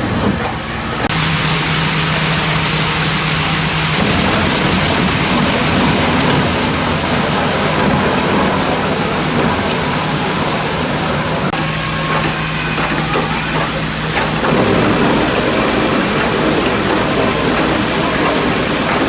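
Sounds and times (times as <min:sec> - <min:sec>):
log debarking machine running: 0:00.0 - 0:19.0.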